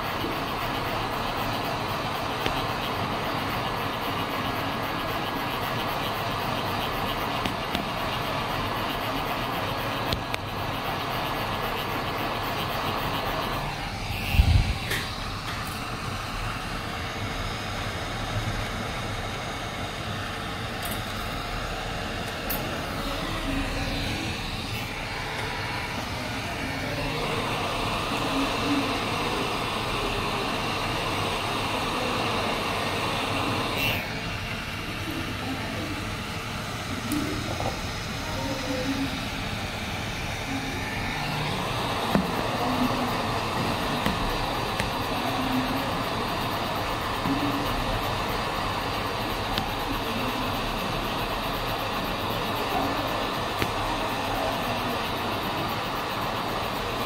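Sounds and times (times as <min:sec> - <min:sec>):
hot air station hissing: 0:00.0 - 0:57.0.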